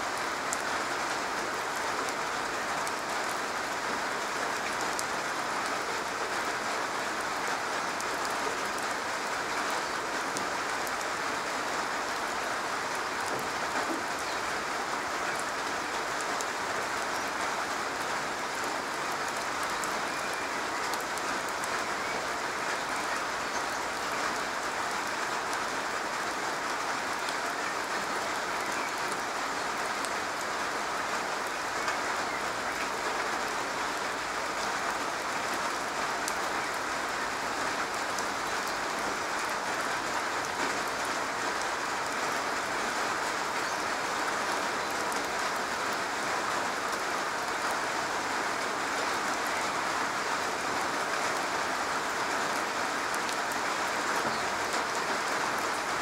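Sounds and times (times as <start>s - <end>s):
rain on a roof: 0.0s - 56.0s.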